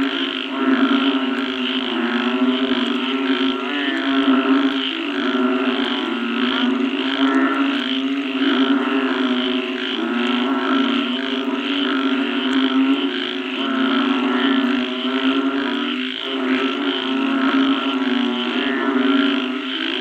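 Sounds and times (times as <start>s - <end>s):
frogs calling: 0.0s - 20.0s.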